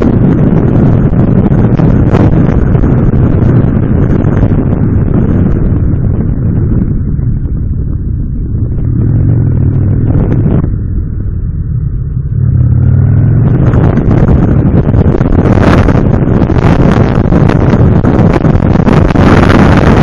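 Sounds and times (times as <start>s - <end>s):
motorcycle engine accelerating: 0.0s - 20.0s
wind rushing over microphone: 0.0s - 20.0s.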